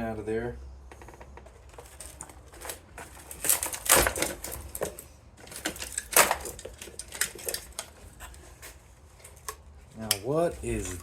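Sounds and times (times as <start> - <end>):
loose parts clicking and clattering: 1.4 - 11.0.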